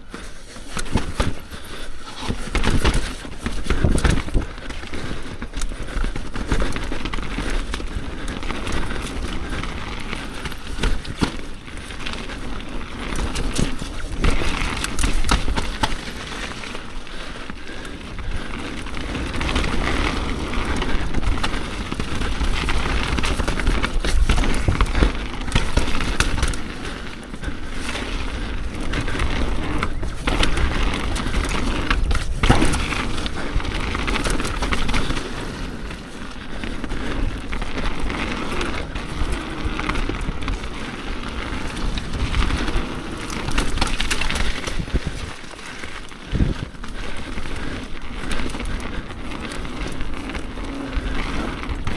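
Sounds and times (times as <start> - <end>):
bike chain and frame rattling: 0.0 - 51.9
bike tyres rolling on wet dirt: 0.0 - 51.9.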